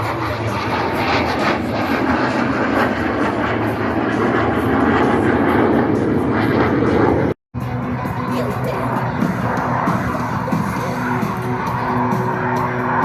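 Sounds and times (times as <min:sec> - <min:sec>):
airplane engine overhead: 0:00.0 - 0:13.0.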